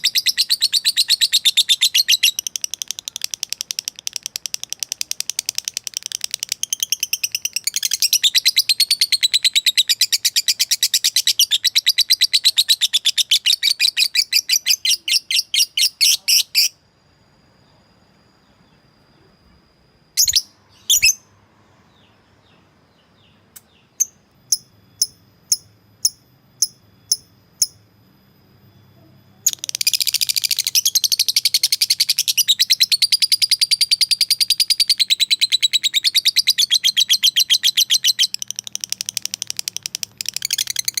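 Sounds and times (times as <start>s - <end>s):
bird chattering trill: 0.0s - 16.8s, 20.2s - 21.3s, 23.0s - 27.8s, 29.4s - 41.0s.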